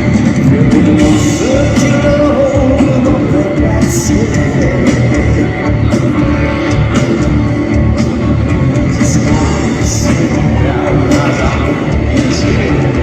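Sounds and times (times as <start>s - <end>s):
heavy electric guitar riff: 0.0s - 13.0s
live rock band playing: 0.0s - 13.0s.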